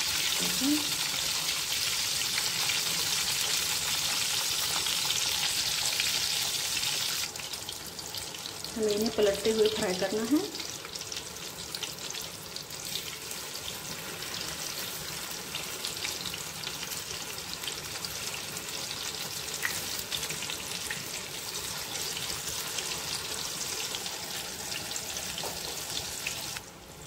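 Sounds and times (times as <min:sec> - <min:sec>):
brinjals sizzling in oil: 0:00.0 - 0:27.0.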